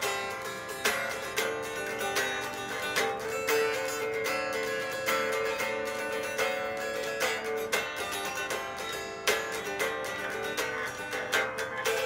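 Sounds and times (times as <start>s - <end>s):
string instrument strumming chords: 0.0s - 12.0s.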